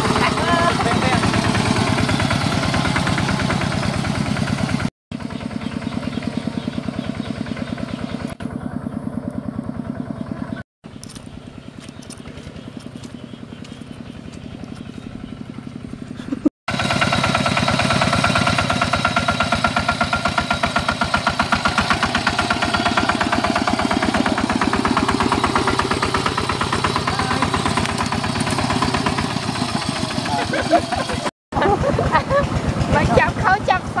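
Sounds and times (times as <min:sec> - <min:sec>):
diesel engine chugging: 0:00.0 - 0:34.0.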